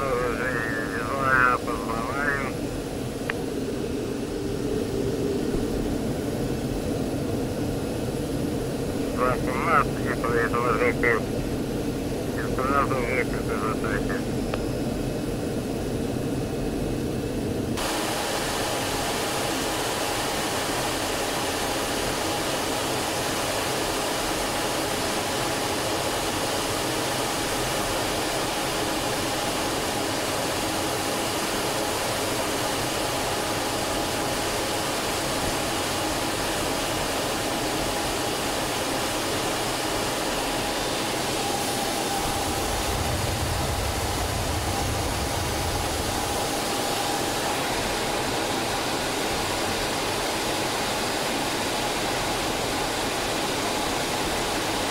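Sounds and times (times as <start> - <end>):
jet engine and airflow noise: 0.0 - 54.9.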